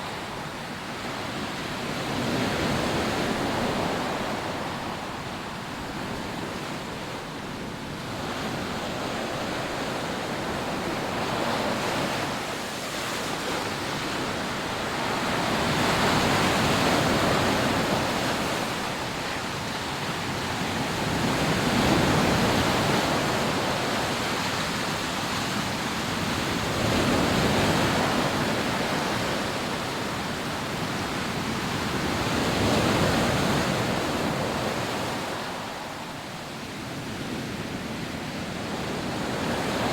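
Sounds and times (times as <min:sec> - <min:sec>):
sea surf breaking on a beach: 0:00.0 - 0:39.9.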